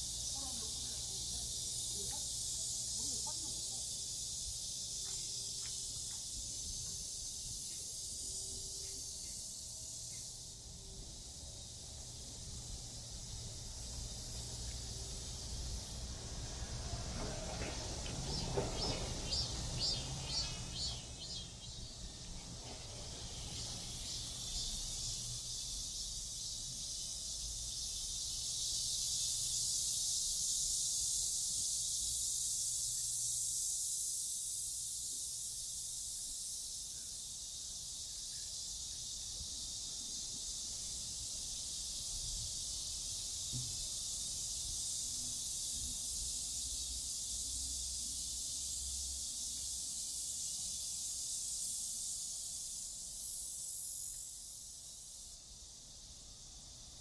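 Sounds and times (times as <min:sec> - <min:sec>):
cicada chorus: 0:00.0 - 0:57.0.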